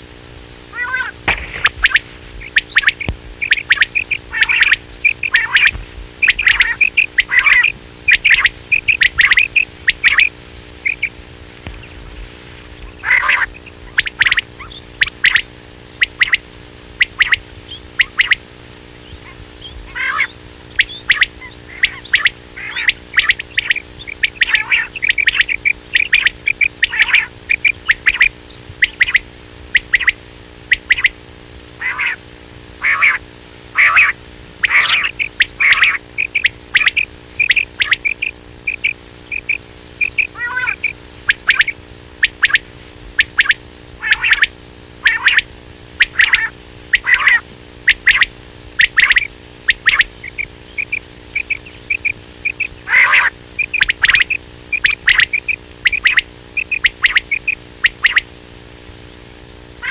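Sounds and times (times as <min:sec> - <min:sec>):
low hum: 0:00.0 - 0:59.9
recorded quail calls: 0:00.0 - 0:59.9.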